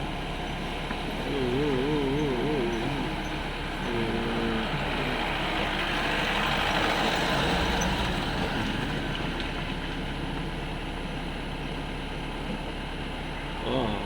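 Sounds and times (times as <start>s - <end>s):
jeep engines running: 0.0s - 14.0s.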